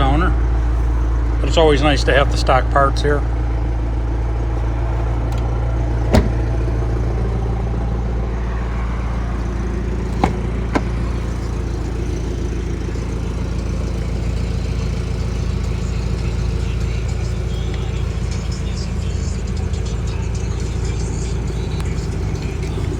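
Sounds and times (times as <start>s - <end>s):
low engine rumble: 0.0s - 22.9s.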